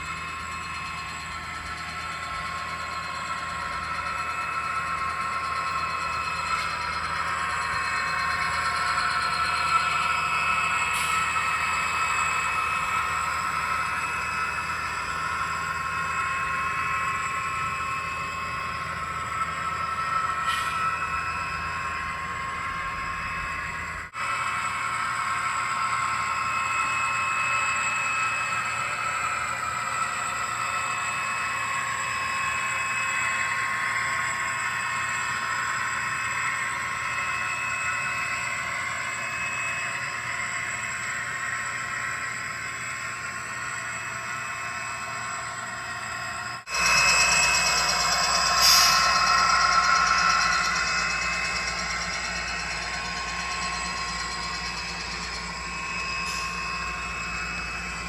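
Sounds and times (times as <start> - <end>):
model train whine: 0.0 - 58.0.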